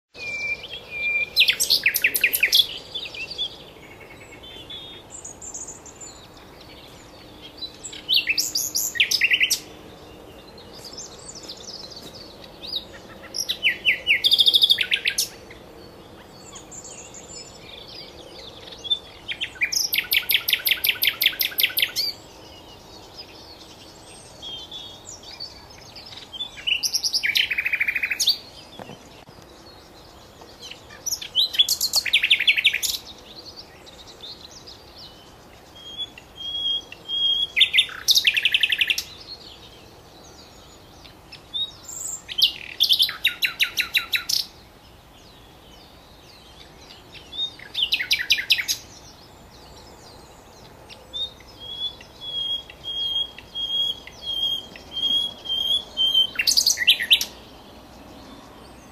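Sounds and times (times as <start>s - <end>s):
nightingale singing: 0.1s - 58.9s.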